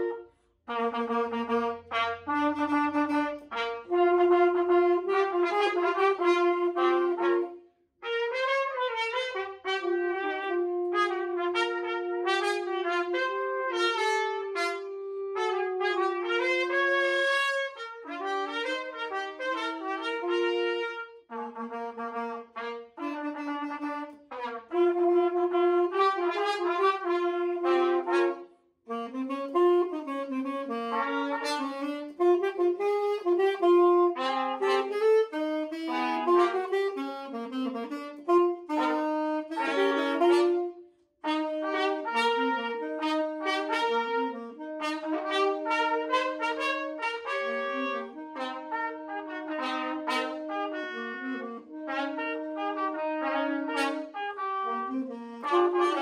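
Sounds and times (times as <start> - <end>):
alto saxophone: 0.0 - 56.0
trumpets playing: 0.0 - 56.0.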